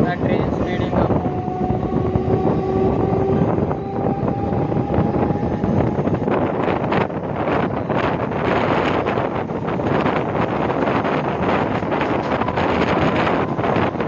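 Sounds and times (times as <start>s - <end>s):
rumble of train wheels on rails: 0.0s - 14.0s
steady whine: 0.0s - 14.0s
wind buffeting microphone: 0.0s - 14.0s.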